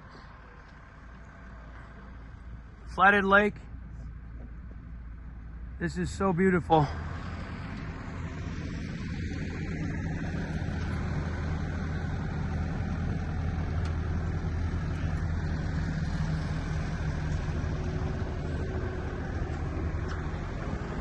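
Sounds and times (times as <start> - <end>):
crane engine humming: 0.0 - 21.0.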